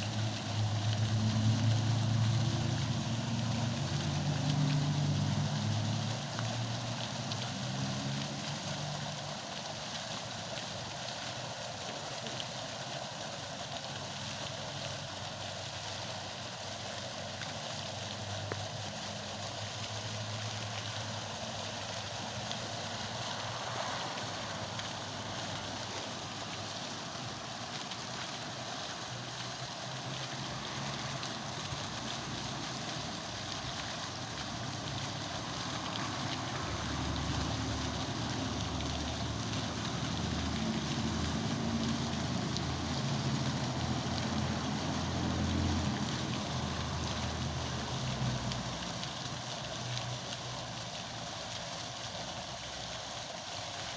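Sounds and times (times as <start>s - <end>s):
water fountain splashing: 0.0s - 53.9s.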